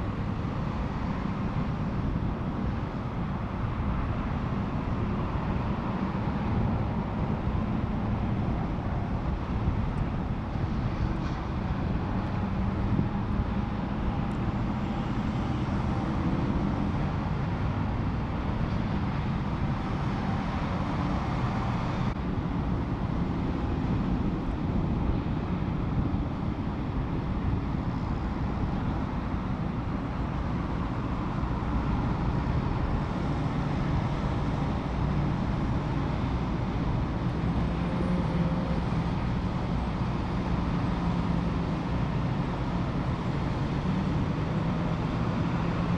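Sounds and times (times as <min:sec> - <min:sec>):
faint engine hum: 0:00.0 - 0:45.9
freeway traffic rumble: 0:00.0 - 0:45.9.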